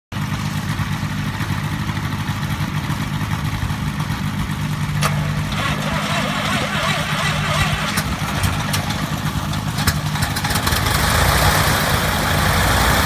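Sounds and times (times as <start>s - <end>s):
aircraft engine idling: 0.2s - 13.0s.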